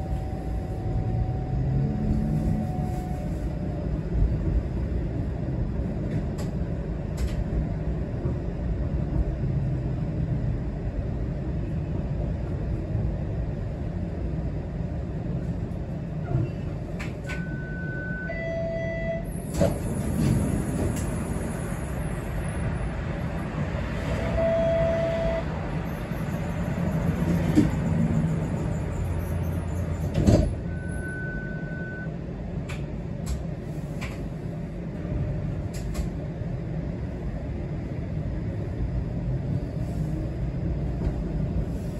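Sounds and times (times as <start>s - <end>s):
streetcar rumbling: 0.0s - 41.9s.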